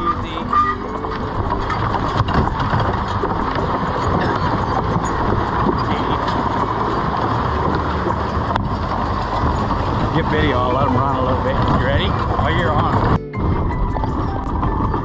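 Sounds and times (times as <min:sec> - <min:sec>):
water splashing around horses: 0:00.0 - 0:13.0
harness chains and wagon clattering: 0:00.0 - 0:15.0.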